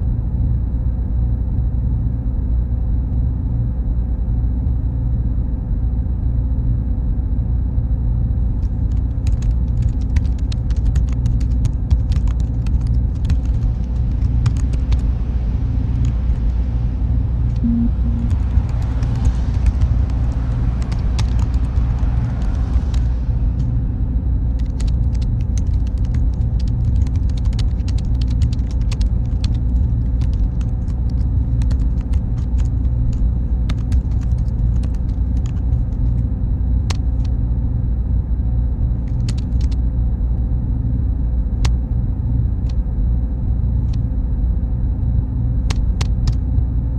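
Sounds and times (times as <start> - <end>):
faint high whine: 0.0 - 46.9
machines and cooling fans humming: 0.0 - 46.9.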